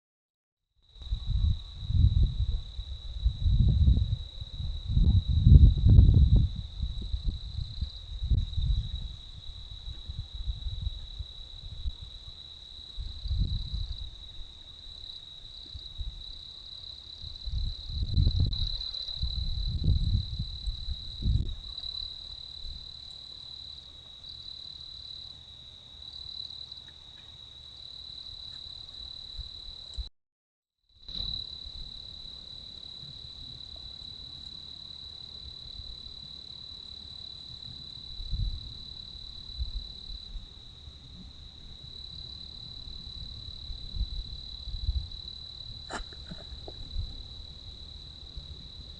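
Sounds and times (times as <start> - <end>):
insects droning: 0.8 - 30.1, 31.0 - 48.9.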